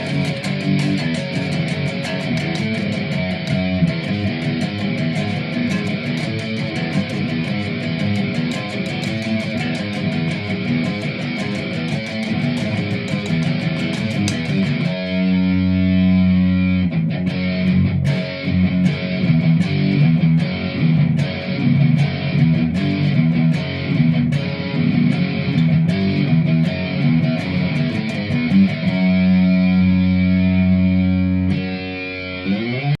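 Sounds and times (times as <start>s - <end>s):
distorted electric guitar: 0.0s - 33.0s.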